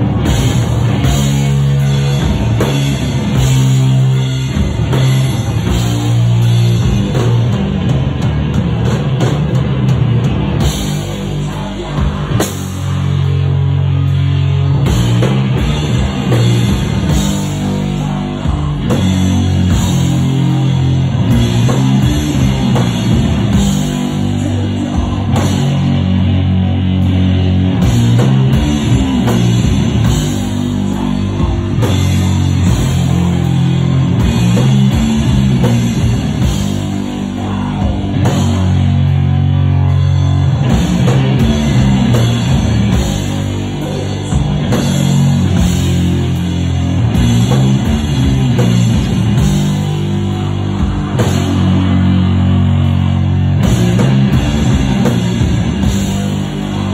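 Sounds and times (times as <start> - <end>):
distorted guitar and bass riffs: 0.0 - 56.9
drum kit: 0.0 - 56.9.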